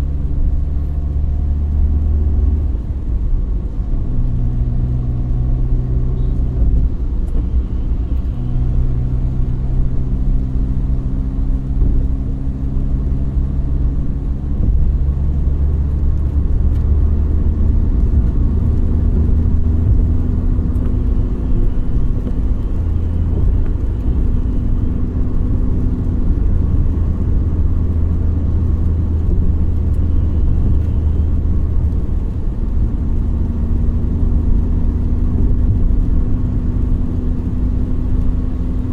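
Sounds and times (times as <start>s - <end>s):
car engine hum: 0.0s - 38.9s
road rumble: 0.0s - 38.9s.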